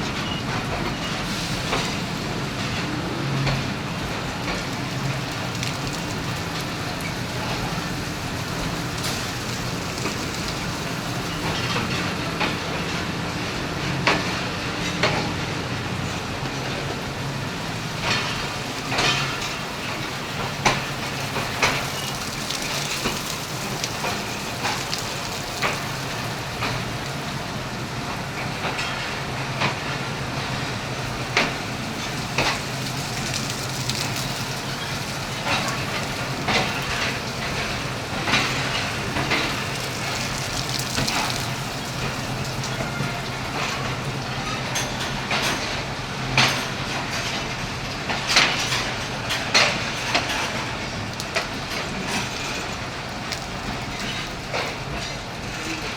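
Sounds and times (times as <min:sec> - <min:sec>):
rain hissing: 0:00.0 - 0:55.9
train cars clacking and knocking: 0:00.0 - 0:55.9
train rolling into station: 0:00.0 - 0:55.9.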